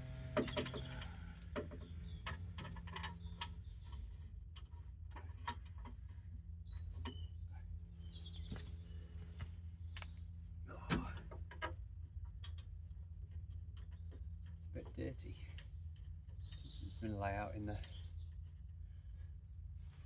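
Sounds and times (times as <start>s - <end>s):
low steady hum: 0.0s - 16.5s, 17.3s - 20.0s.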